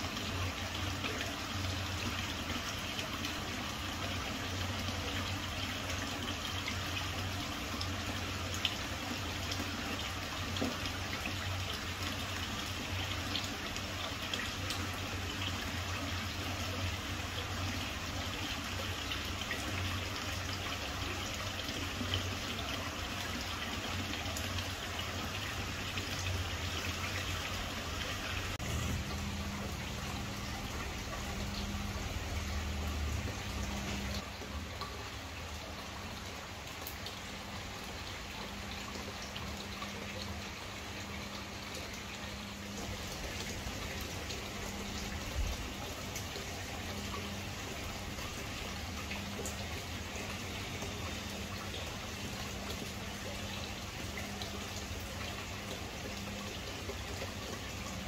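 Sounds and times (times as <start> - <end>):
low steady hum: 0.0 - 58.0
waterfall splashing into pond: 0.0 - 58.0.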